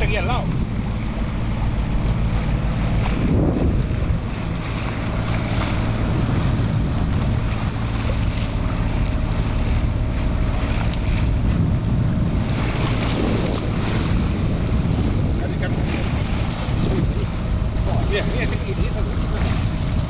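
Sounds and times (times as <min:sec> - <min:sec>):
steady low drone: 0:00.0 - 0:20.0
water rushing along boat bow: 0:00.0 - 0:20.0
wind buffeting microphone: 0:00.0 - 0:20.0.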